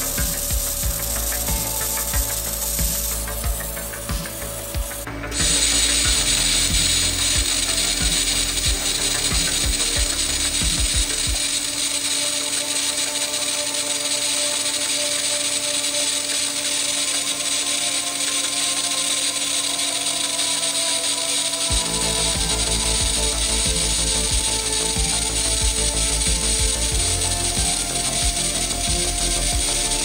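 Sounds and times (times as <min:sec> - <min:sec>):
welding arc hissing and buzzing: 0:00.0 - 0:30.0.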